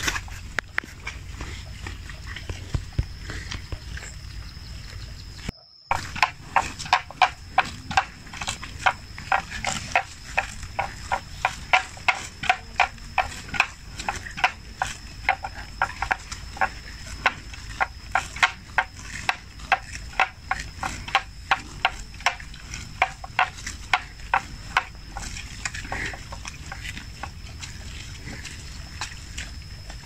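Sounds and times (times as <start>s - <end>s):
buffalo tearing grass: 5.9s - 30.0s.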